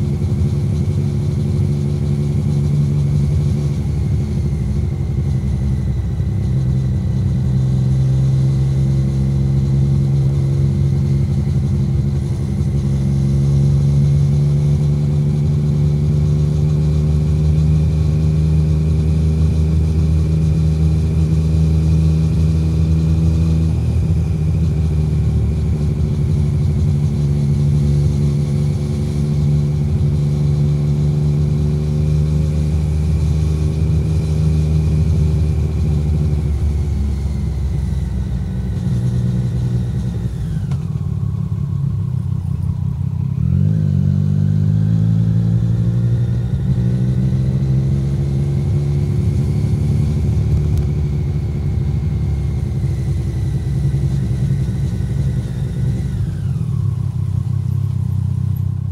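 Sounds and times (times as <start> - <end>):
motorcycle engine at low revs: 0.0 - 58.9.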